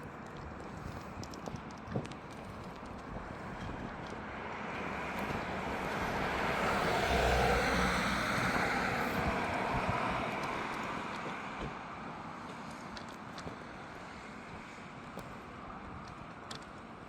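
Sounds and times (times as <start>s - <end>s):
vehicle tyre noise on asphalt: 0.0s - 17.0s.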